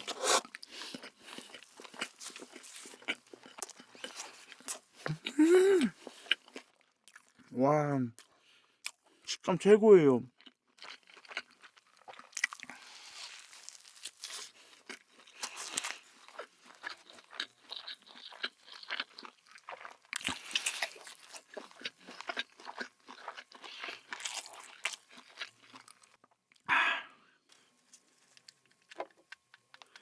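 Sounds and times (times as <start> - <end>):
crunchy food being chewed: 0.0 - 7.5, 10.3 - 26.7, 27.5 - 30.0.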